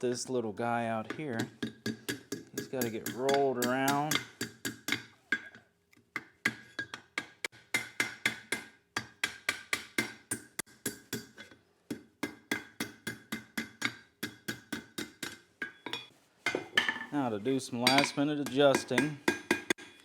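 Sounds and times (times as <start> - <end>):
hammer striking steel on anvil: 1.4 - 5.6, 6.2 - 17.1, 17.8 - 20.0.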